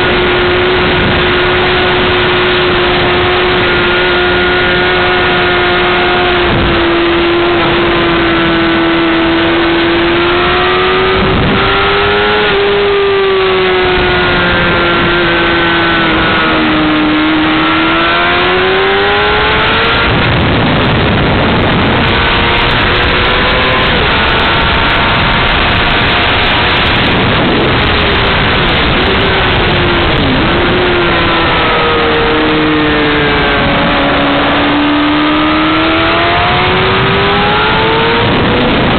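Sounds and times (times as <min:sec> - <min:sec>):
motorcycle engine revving high: 0:00.0 - 0:38.9
wind rush over microphone: 0:00.0 - 0:38.9.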